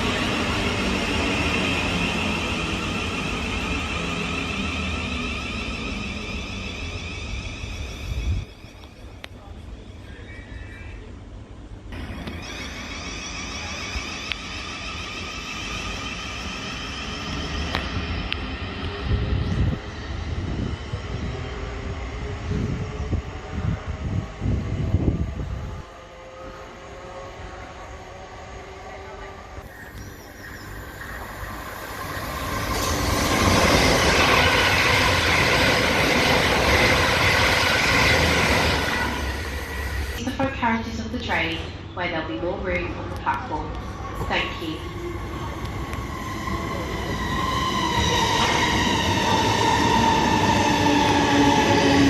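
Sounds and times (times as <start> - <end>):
electric train rumbling with whine: 0.0 - 52.0.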